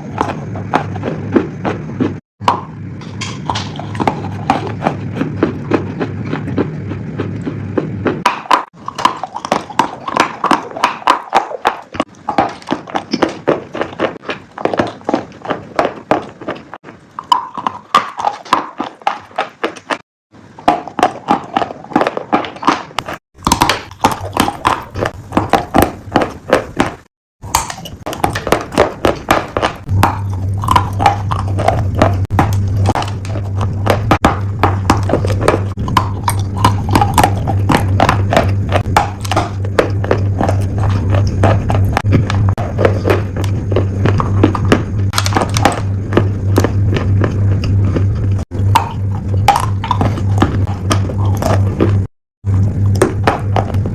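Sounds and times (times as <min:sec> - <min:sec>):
low hum: 0:00.0 - 0:15.6, 0:23.0 - 0:53.9
piglet chewing crunchy food: 0:00.0 - 0:53.9.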